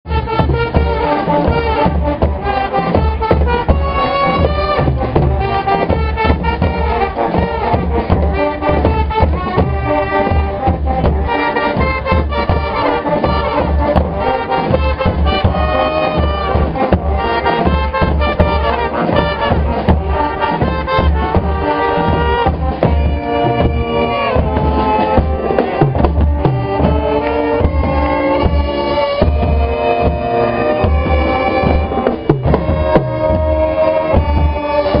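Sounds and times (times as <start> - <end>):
brass band playing: 0.1 - 35.0.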